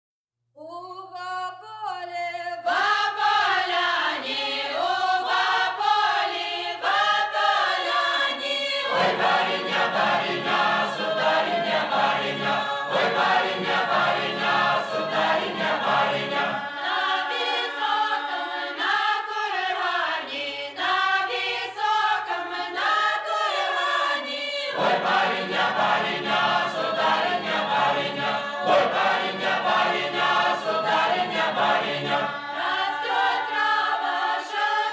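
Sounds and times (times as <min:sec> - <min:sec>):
unaccompanied choir singing: 0:02.6 - 0:34.9
low voices singing: 0:02.7 - 0:34.9.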